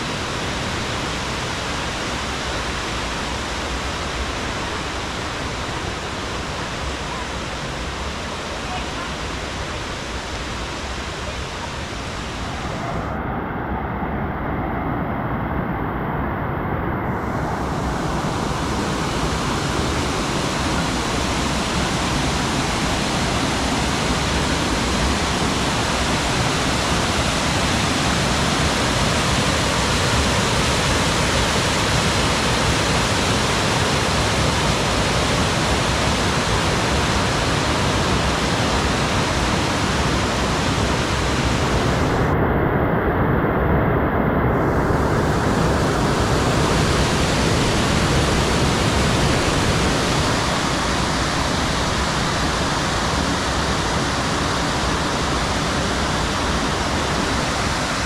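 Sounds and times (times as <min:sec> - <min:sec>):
waterfall rushing: 0:00.0 - 0:15.3, 0:17.1 - 0:42.4, 0:44.5 - 0:58.0.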